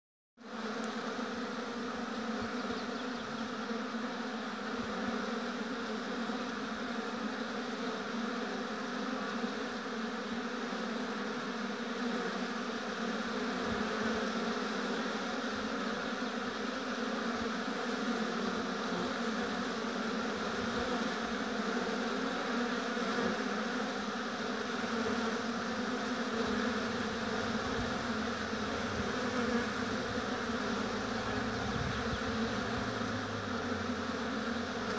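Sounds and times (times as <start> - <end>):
honeybees buzzing: 0.4 - 34.9.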